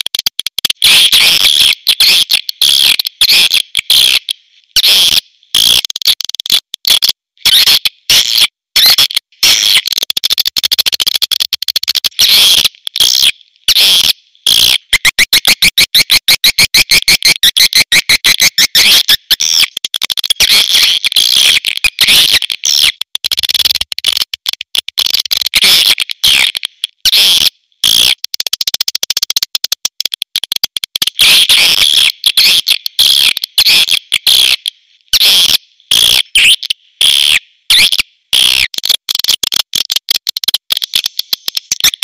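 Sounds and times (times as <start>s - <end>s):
sharp high bird chirps and clicks: 0.0s - 42.0s.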